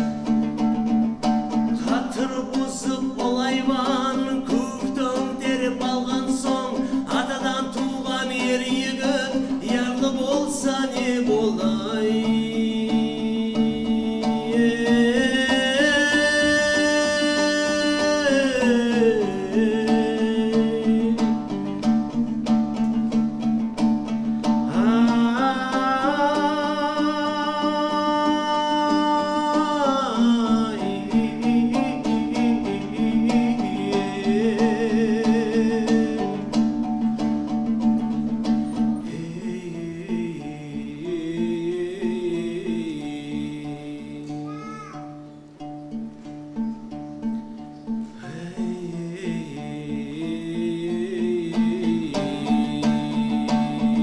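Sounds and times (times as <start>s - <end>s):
man singing folk song: 0.0s - 54.0s
plucked lutes ensemble: 0.0s - 54.0s.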